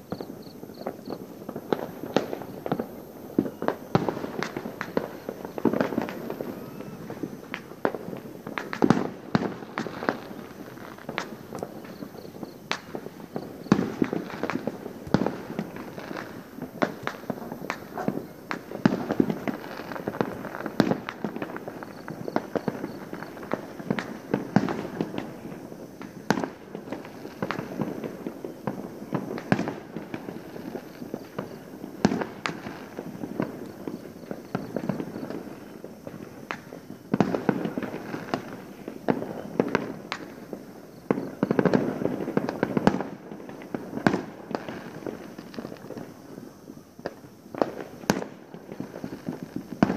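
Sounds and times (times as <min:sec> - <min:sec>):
firecrackers banging and popping: 0:00.0 - 0:49.9
sharp firework cracks: 0:00.0 - 0:49.9.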